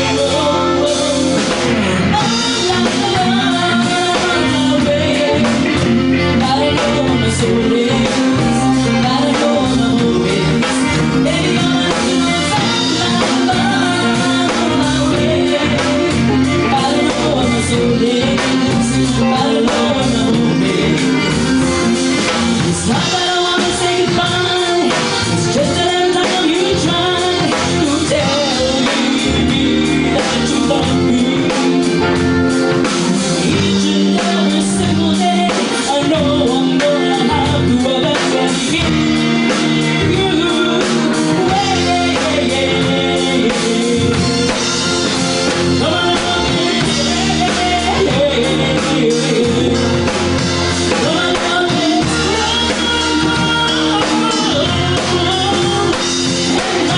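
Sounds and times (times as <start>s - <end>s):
drum kit: 0.0s - 56.9s
guitar: 0.0s - 56.9s
person singing: 0.0s - 56.9s.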